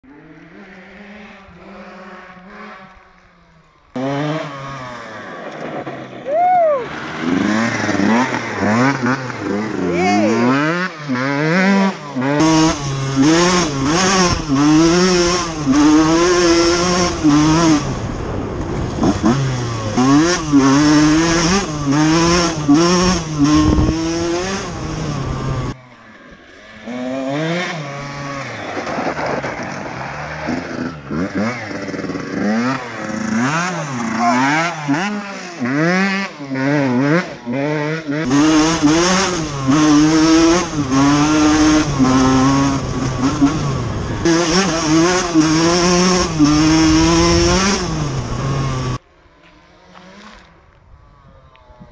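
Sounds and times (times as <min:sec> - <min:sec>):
two-stroke motorcycle engine revving: 0:00.0 - 0:05.4, 0:07.0 - 0:25.8, 0:26.6 - 0:49.0.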